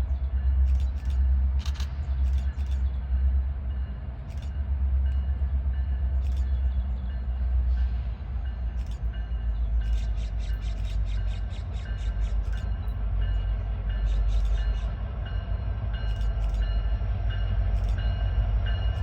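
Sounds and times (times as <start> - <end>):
sharp clicks of train wheels: 0.0 - 19.0
train rumbling by: 0.0 - 19.0.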